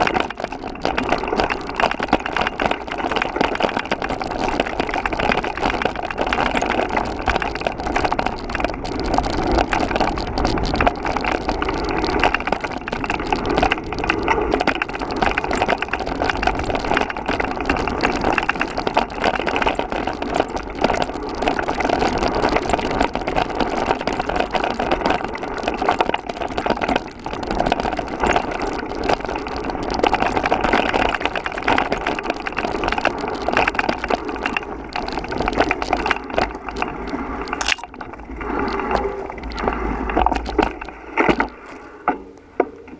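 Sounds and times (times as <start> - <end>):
bike rattling over dirt trail: 0.0 - 42.2.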